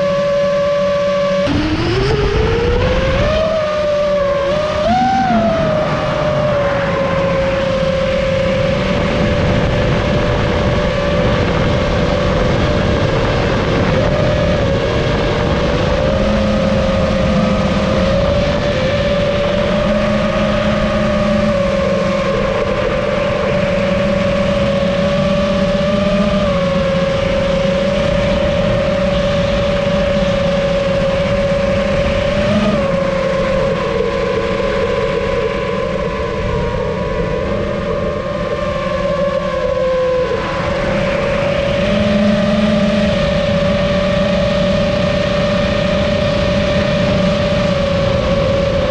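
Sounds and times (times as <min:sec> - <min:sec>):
drone motors whining: 0:00.0 - 0:48.9
airflow rushing: 0:01.4 - 0:44.1.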